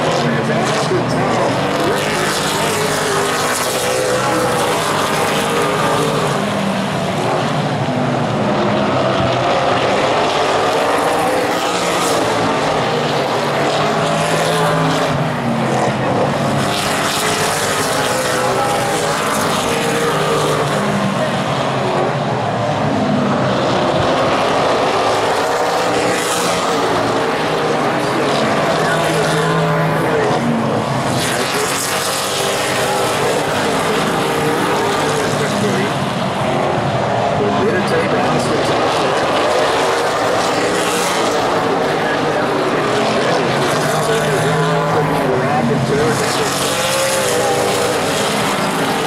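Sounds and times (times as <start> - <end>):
race car engines passing: 0.0 - 49.0.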